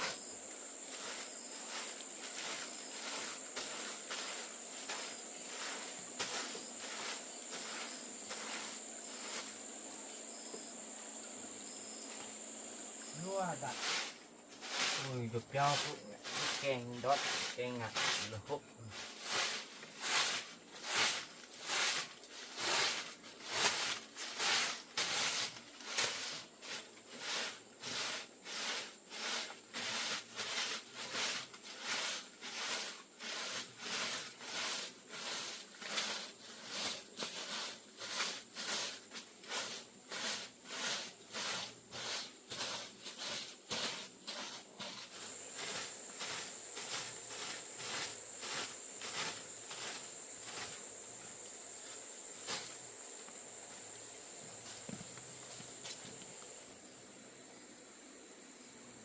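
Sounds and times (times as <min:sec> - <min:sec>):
rasping scraping strokes by hand: 0:00.9 - 0:09.6, 0:13.0 - 0:50.9, 0:51.8 - 0:52.8.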